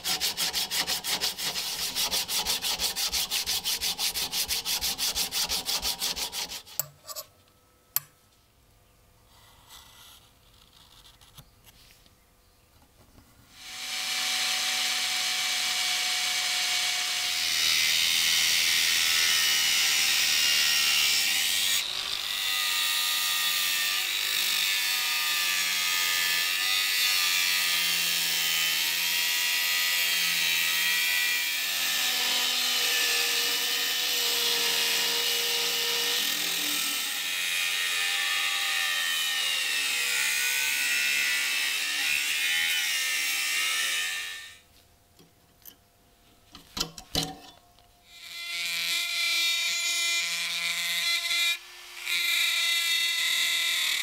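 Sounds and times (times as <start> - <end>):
angle grinder cutting steel: 0.0 - 7.3, 13.5 - 44.6, 48.1 - 54.0.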